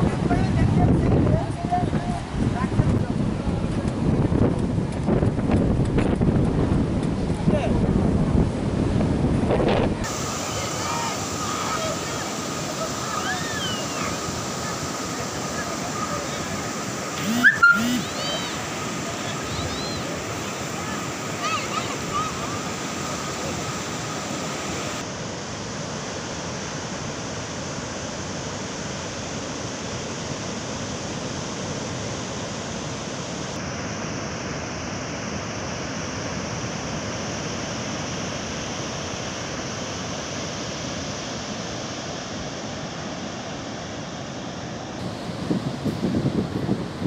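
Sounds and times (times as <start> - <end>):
rough surf breaking on beach: 0.0 - 47.0.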